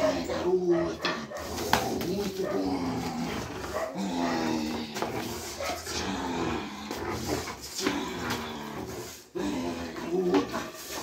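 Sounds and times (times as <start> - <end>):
dog growling: 0.0 - 11.0.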